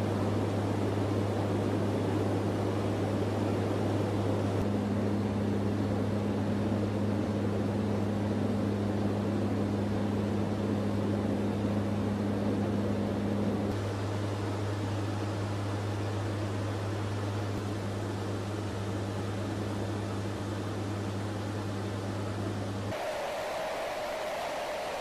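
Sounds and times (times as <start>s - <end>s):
higher engine hum: 0.0s - 25.0s
turboprop engines droning: 0.0s - 25.0s.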